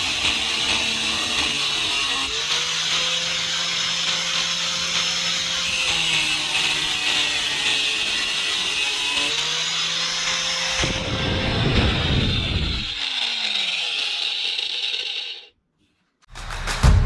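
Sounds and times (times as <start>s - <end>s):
angle grinder cutting steel: 0.0s - 15.6s.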